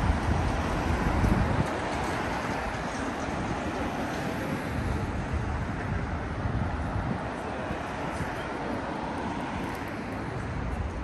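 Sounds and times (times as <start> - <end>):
traffic rumble: 0.0 - 11.0
wind buffeting microphone: 0.0 - 11.0.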